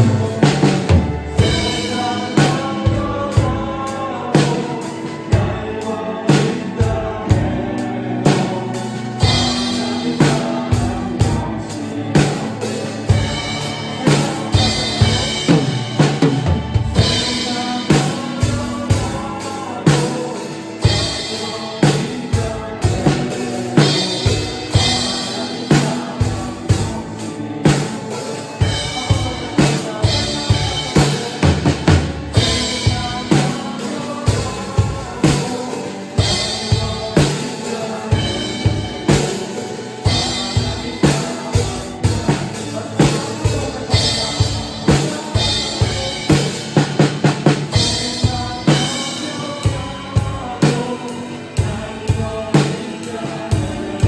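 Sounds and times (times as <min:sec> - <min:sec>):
drum kit playing: 0:00.0 - 0:54.0
recorded worship song with singing: 0:00.0 - 0:54.0.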